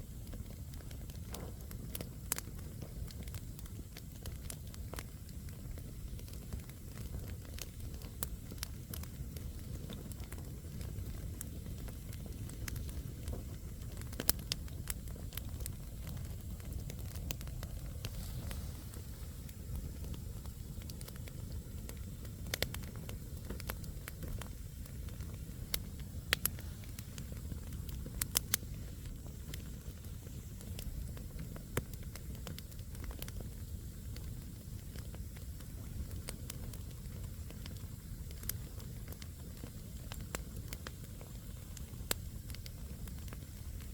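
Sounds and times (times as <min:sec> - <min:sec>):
campfire flames rushing: 0:00.0 - 0:43.9
crackles and pops from logs: 0:00.0 - 0:43.9.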